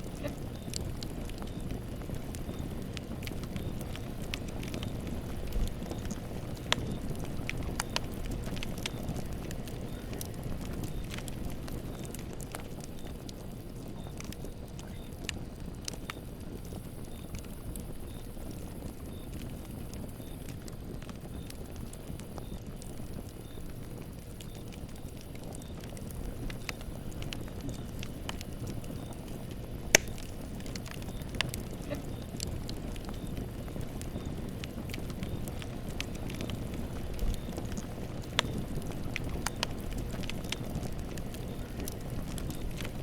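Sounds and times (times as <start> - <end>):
burning wood crackling and popping: 0.0 - 43.0
campfire low rumble: 0.0 - 43.0.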